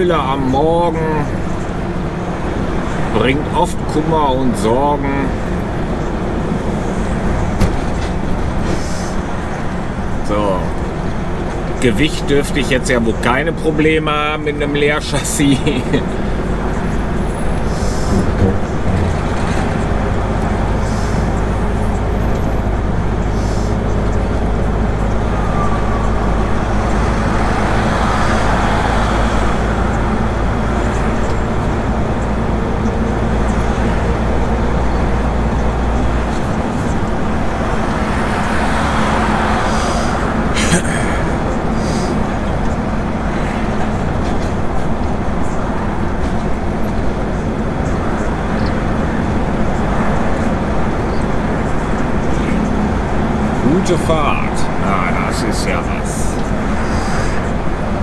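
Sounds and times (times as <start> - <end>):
diesel truck engine drone: 0.0 - 58.0
road noise: 0.0 - 58.0.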